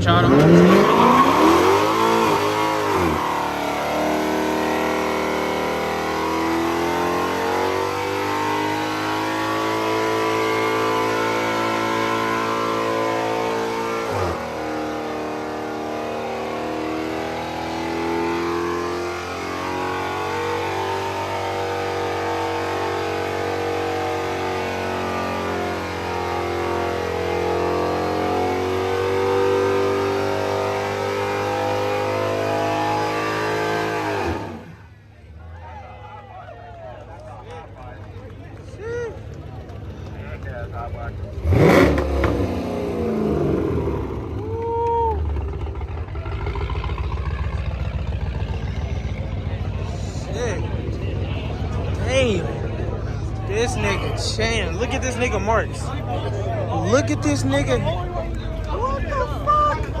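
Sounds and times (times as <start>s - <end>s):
car engine at high revs: 0.0s - 35.5s, 37.0s - 60.0s.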